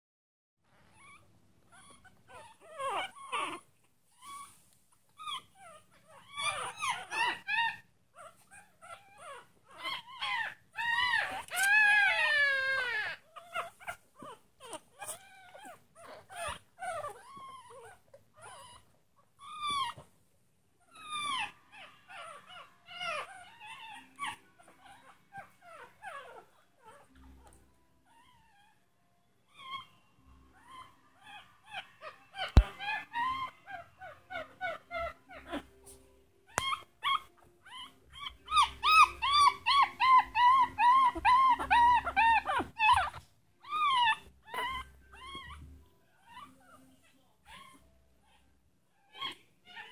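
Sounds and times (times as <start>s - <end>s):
puppies howling and crying: 0.8s - 4.6s, 5.2s - 20.1s, 20.9s - 28.8s, 29.4s - 49.9s.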